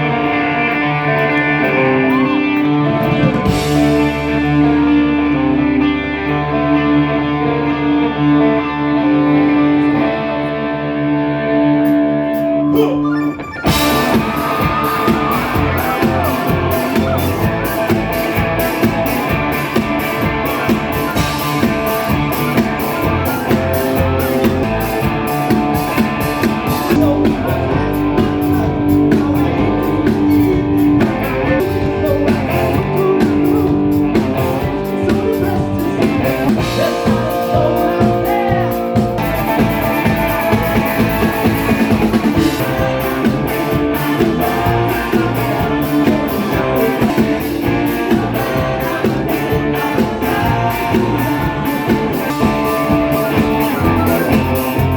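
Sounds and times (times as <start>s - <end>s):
electric guitar: 0.0s - 54.9s
drum kit: 2.1s - 5.4s, 12.8s - 54.9s.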